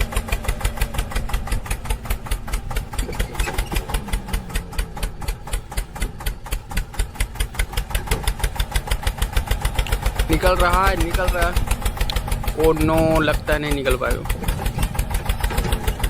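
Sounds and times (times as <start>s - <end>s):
small engine puttering: 0.0s - 16.0s.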